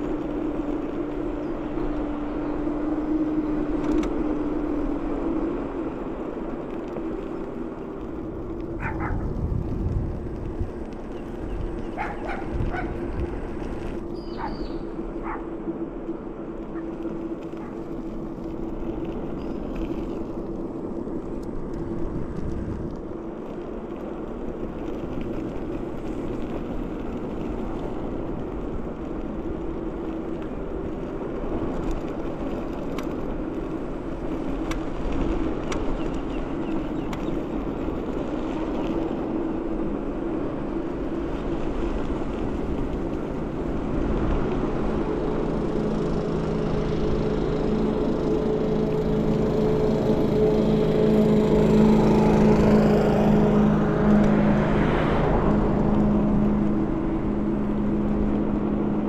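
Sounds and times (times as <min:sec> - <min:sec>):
tyres rushing on asphalt: 0:00.0 - 0:59.0
wind: 0:00.0 - 0:59.0.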